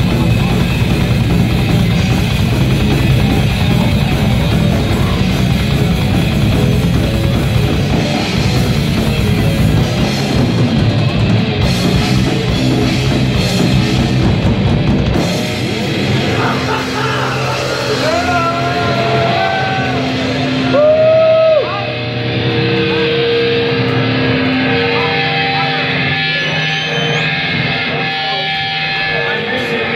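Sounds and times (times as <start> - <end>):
bending guitar notes: 0.0 - 29.9
drums: 0.0 - 29.9
rock band playing live: 0.0 - 29.9.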